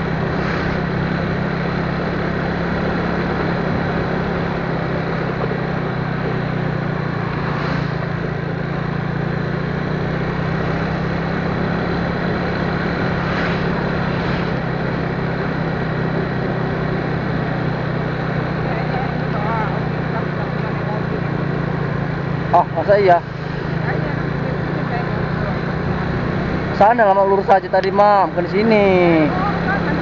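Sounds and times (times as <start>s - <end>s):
road and wind noise: 0.0s - 30.0s
vehicle engine hum: 0.0s - 30.0s.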